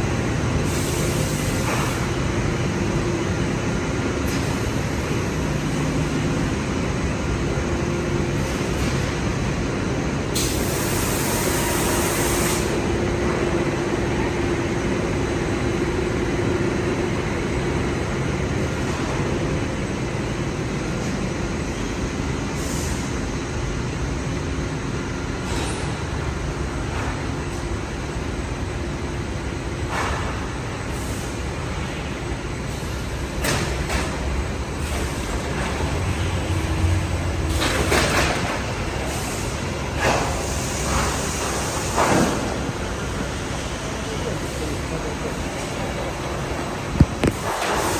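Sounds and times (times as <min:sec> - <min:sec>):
machinery humming: 0:00.0 - 0:47.9.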